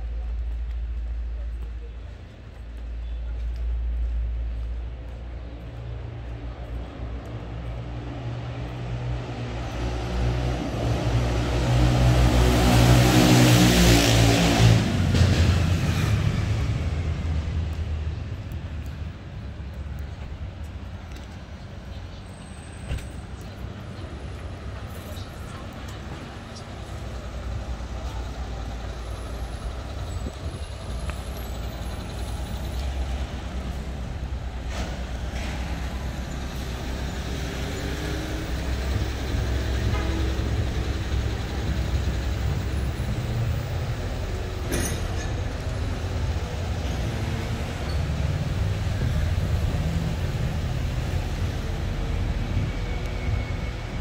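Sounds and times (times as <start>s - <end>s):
vehicle engines rumbling: 0.0s - 54.0s.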